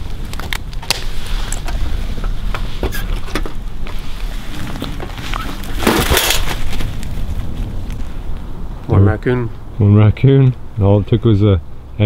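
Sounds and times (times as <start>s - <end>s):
leaves rustling: 0.0s - 9.8s
wind rumble on microphone: 0.0s - 12.0s.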